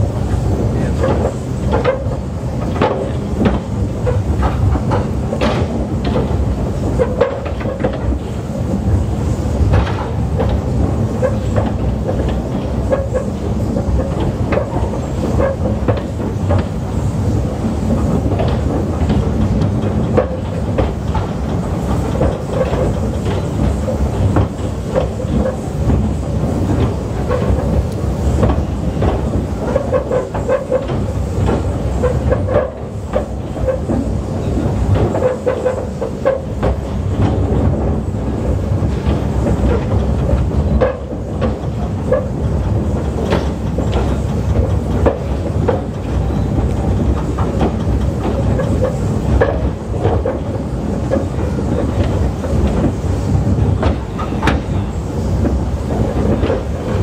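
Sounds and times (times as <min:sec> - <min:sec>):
rail vehicle rumbling on track: 0:00.0 - 0:57.0
wheels clicking over rail joints: 0:00.8 - 0:57.0.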